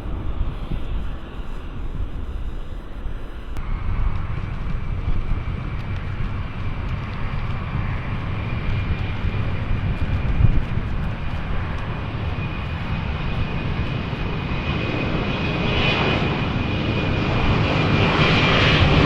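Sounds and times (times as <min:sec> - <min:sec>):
jet engine high whine: 0:00.0 - 0:19.0
jet engines rumbling: 0:00.0 - 0:19.0
wind buffeting microphone: 0:00.0 - 0:19.0.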